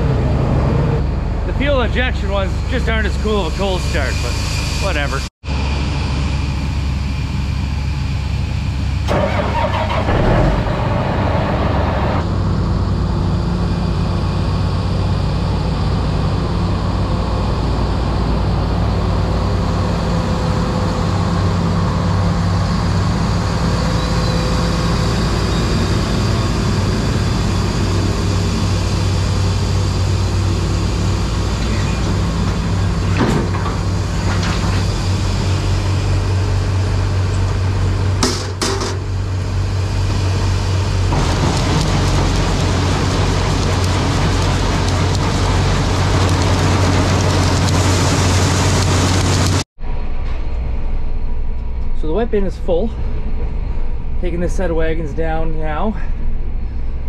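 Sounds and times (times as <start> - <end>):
diesel tractor engines idling: 0.0 - 49.6.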